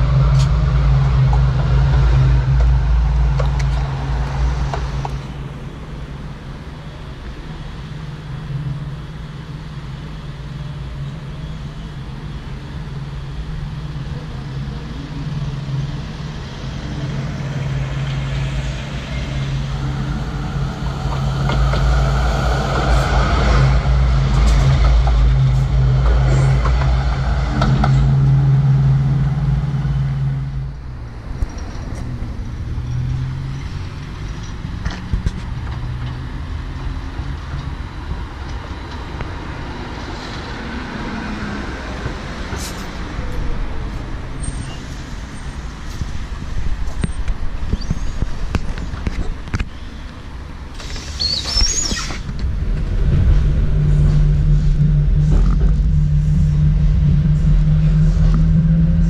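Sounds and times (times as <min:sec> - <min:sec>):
tram motor hum: 0:00.0 - 0:44.4, 0:45.0 - 0:59.0
city street traffic: 0:00.0 - 0:59.0.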